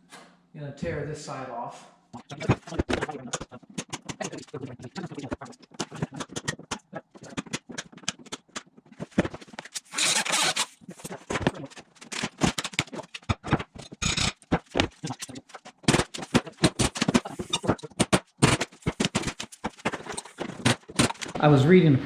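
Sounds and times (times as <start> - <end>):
wood scraping rasp: 2.2 - 21.4.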